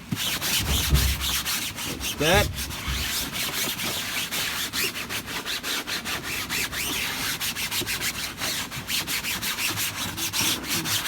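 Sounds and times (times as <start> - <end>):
sponge scrubbing mesh screen: 0.2 - 11.0.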